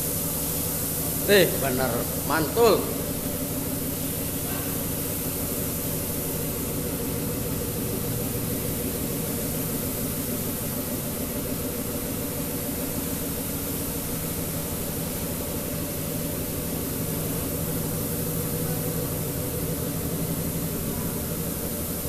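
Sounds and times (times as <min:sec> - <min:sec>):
machinery drone with hiss: 0:00.0 - 0:22.0.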